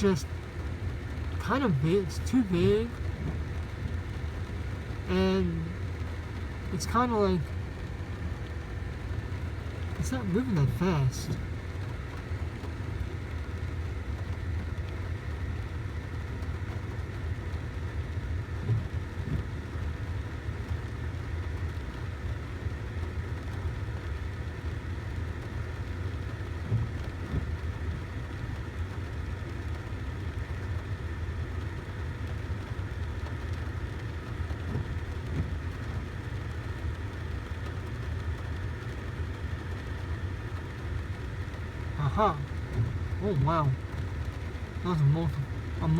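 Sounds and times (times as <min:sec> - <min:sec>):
faint hum: 0:00.0 - 0:45.9.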